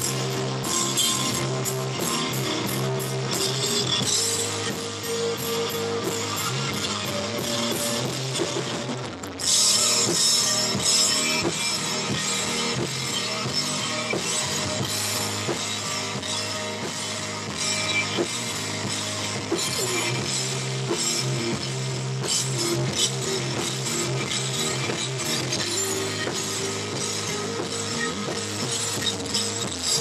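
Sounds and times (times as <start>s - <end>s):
drum kit with cymbals: 0.0s - 30.0s
electric guitar: 0.0s - 30.0s
low bass notes: 0.0s - 30.0s.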